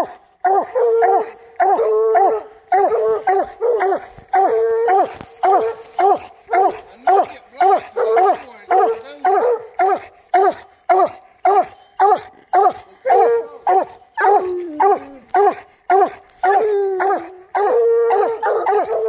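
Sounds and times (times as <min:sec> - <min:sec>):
hounds barking: 0:00.0 - 0:19.0
hounds bawling: 0:00.0 - 0:19.0.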